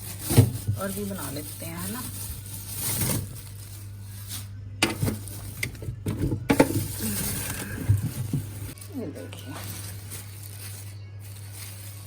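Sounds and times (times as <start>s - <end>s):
kitchen items clattering: 0.0s - 12.0s.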